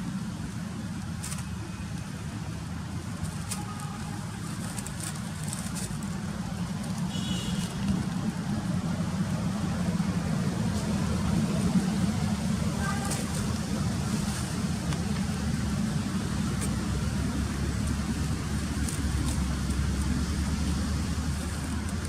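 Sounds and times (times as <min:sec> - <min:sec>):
low motor rumble: 0:02.1 - 0:22.0.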